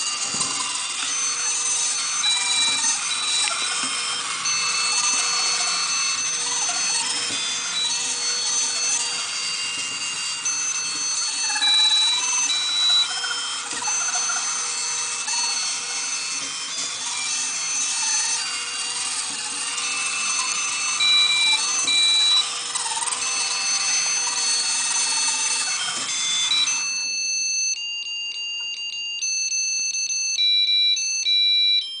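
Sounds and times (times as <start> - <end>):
robot motors whirring: 0.0 - 27.8
buzzer beeping tune: 0.0 - 32.0.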